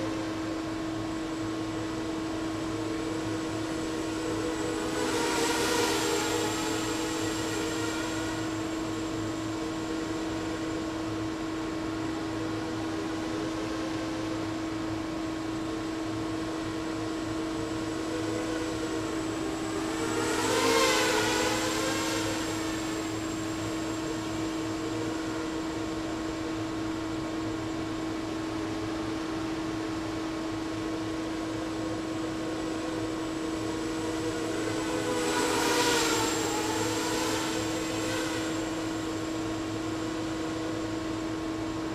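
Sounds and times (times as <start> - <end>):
quadcopter motors whining: 0.0 - 41.9
steady hum: 0.0 - 41.9.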